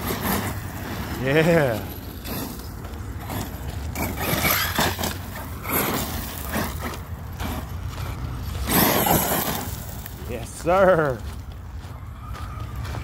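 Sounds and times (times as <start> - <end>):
rc truck motor and tyres on gravel: 0.0 - 13.0.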